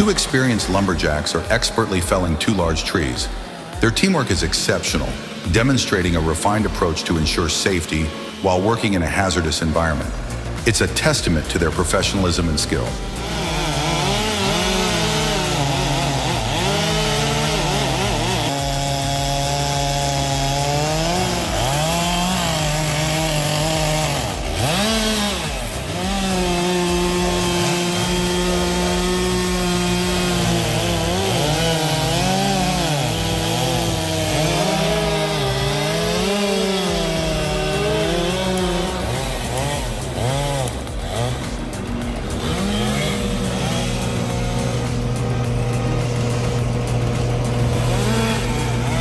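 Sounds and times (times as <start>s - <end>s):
chainsaw cutting tree trunk: 0.0s - 49.0s.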